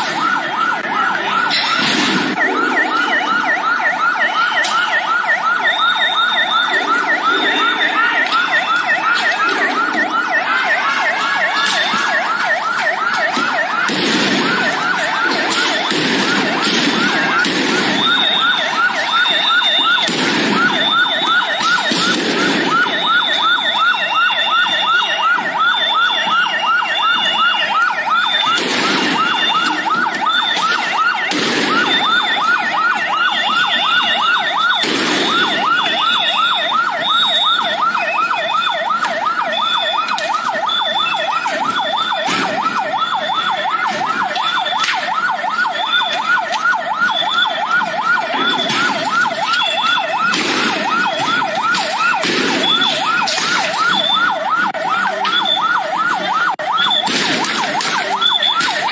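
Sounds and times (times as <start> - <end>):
higher siren tone: 0.0 - 58.9
police siren fast yelp: 0.0 - 58.9
sharp bangs: 0.0 - 58.9.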